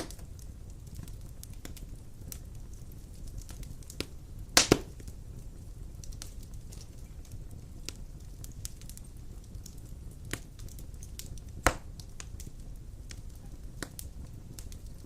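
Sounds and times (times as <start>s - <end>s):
fire rumbling: 0.0s - 15.0s
wood fire crackling and popping: 0.0s - 15.0s.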